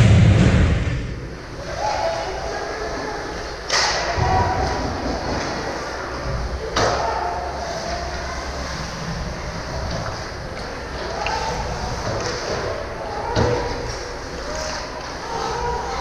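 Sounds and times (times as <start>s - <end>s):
faint voices: 1.3s - 16.0s.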